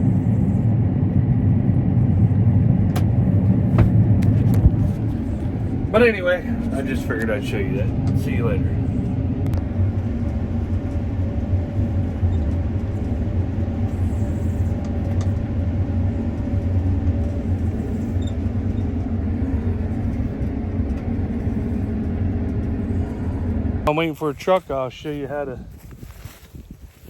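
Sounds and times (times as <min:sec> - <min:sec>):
combine harvester engine rumble: 0:00.0 - 0:27.0
faint steady hum: 0:00.0 - 0:27.0.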